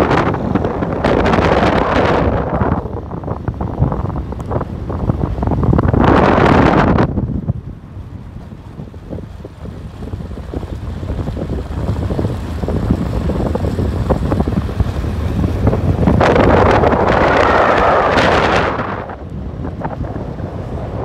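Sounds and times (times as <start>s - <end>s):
moving vehicle rumble: 0.0s - 21.0s
wind buffeting microphone: 0.0s - 21.0s.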